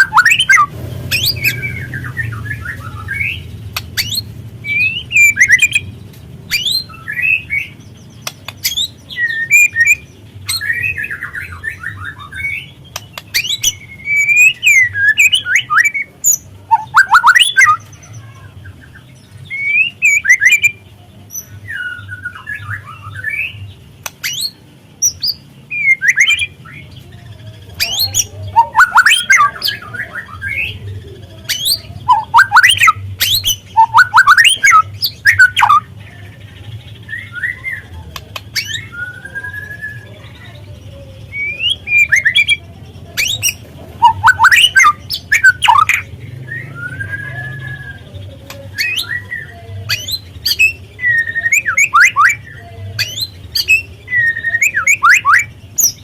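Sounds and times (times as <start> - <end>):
bird singing in quick chirps: 0.0 - 56.0.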